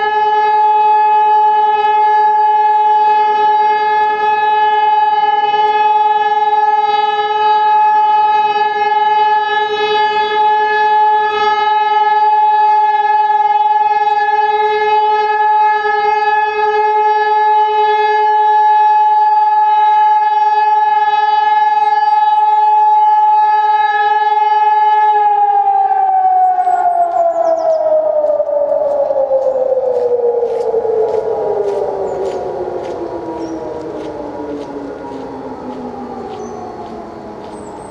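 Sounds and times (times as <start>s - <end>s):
siren steady tone: 0.0s - 37.9s.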